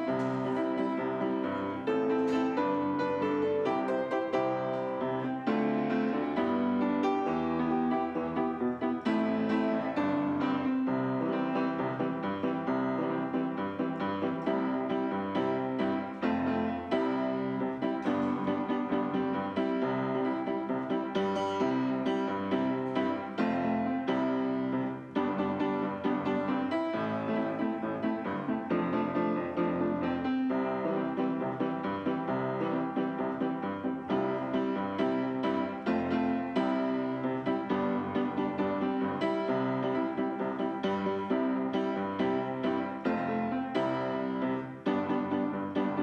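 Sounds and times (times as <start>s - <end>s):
piano music: 0.0s - 46.0s.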